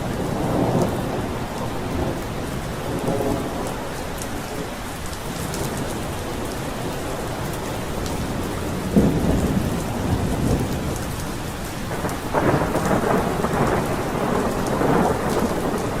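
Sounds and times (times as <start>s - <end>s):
thunder clap and rumble: 0.0s - 4.8s, 5.4s - 16.0s
heavy rain: 0.0s - 16.0s.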